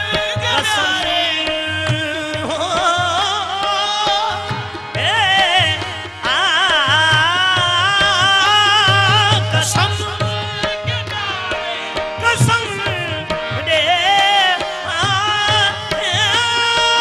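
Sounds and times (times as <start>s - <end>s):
harmonium melody: 0.0s - 17.0s
man singing: 0.0s - 17.0s
tabla rhythm: 0.0s - 17.0s.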